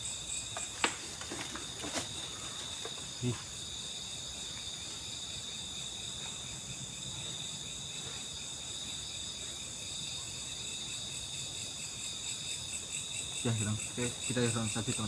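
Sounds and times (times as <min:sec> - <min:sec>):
crickets and insects trilling: 0:00.0 - 0:15.0.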